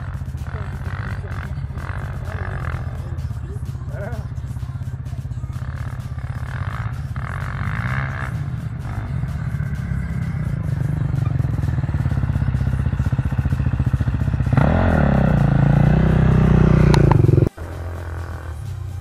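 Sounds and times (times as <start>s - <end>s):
quad engine revving: 0.0s - 19.0s.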